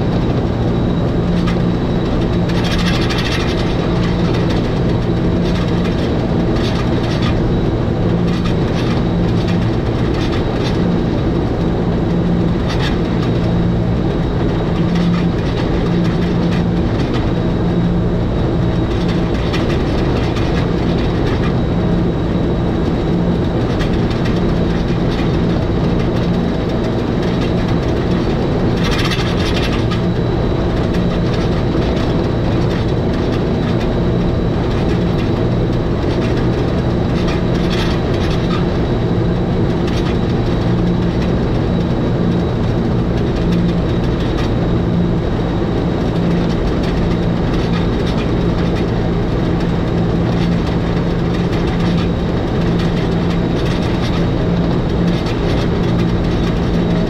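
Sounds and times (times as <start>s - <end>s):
wheels clicking on track: 0.0s - 45.0s, 45.6s - 57.0s
electric railcar droning: 0.0s - 57.0s.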